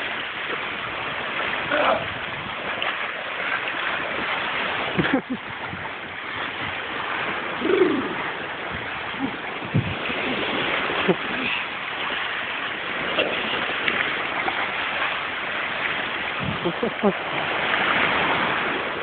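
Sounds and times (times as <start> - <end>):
surf breaking on rocks: 0.0 - 19.0.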